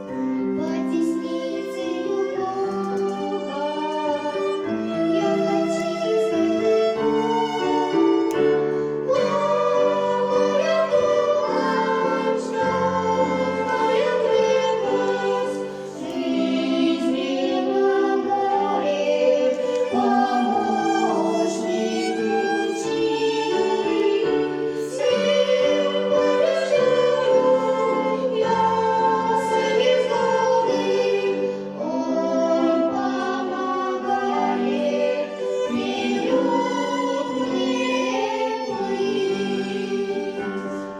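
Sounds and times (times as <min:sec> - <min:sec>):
choir-like singing: 0:00.0 - 0:40.9
instrumental accompaniment: 0:00.0 - 0:40.9.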